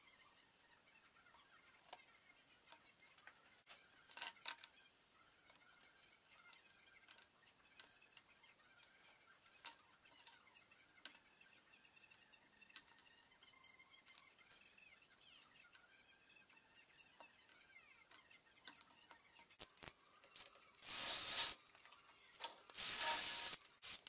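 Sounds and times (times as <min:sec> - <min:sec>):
faint high chirping: 0:00.0 - 0:24.0.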